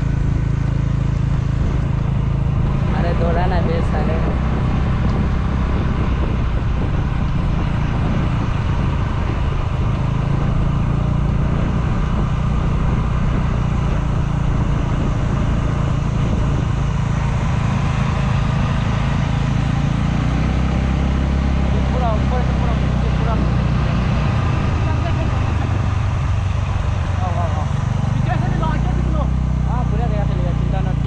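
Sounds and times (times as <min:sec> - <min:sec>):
road and wind noise: 0:00.0 - 0:31.0
vehicle engine running steadily: 0:00.0 - 0:31.0.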